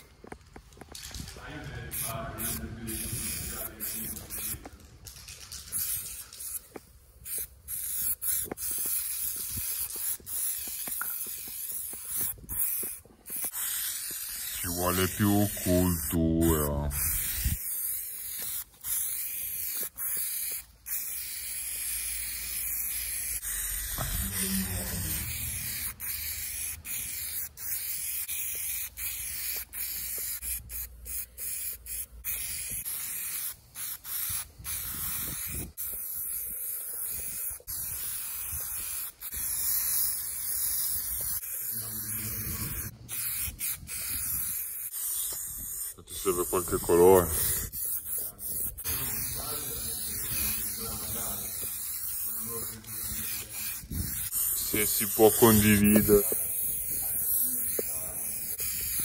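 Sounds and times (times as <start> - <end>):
spray paint cans hissing: 0.0 - 59.0.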